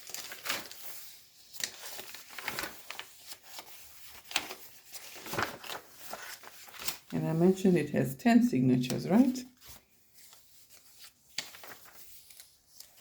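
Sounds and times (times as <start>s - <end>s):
paper pages rustling: 0.0s - 7.7s, 8.8s - 13.0s.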